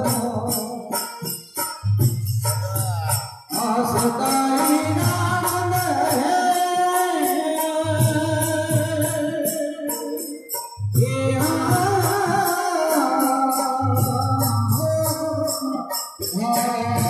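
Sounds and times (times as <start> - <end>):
man singing through microphone: 0.0 - 1.6, 2.4 - 17.0
jingling hand percussion: 0.0 - 17.0.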